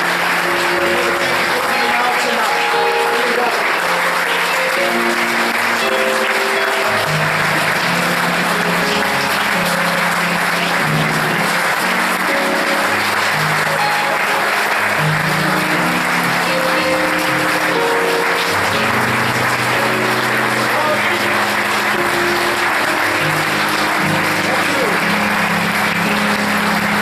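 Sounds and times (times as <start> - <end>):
audience applauding: 0.0 - 27.0
band playing: 0.0 - 27.0.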